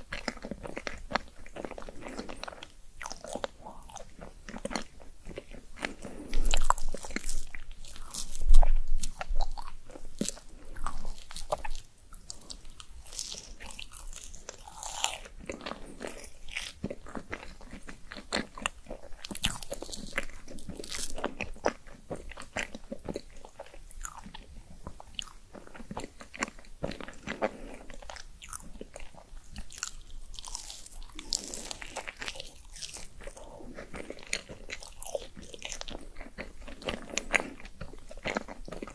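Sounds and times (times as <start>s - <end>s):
biting and chewing with crunches: 0.0s - 38.9s.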